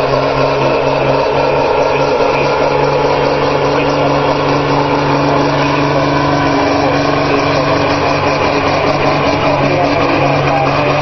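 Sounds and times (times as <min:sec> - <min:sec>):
diesel engine under full load: 0:00.0 - 0:11.0.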